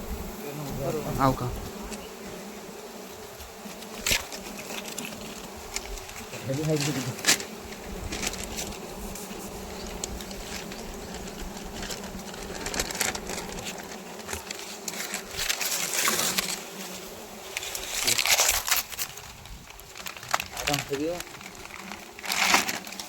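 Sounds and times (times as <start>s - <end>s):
bees buzzing: 0.0s - 23.0s
rustling and crackling: 0.0s - 23.0s.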